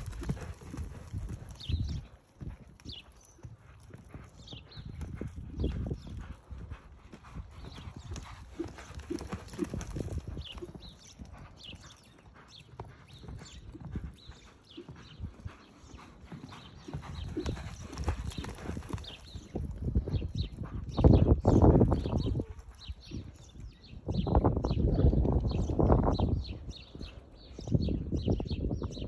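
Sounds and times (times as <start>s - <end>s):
hoofbeats on sand: 0.0s - 29.0s.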